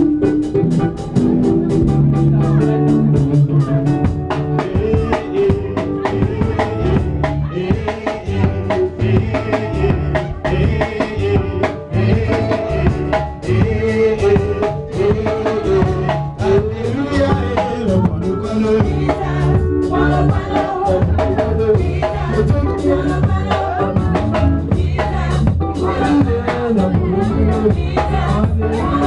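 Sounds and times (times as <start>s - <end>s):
drum kit beat: 0.0s - 29.0s
live worship band playing: 0.0s - 29.0s
voices singing: 0.0s - 29.0s.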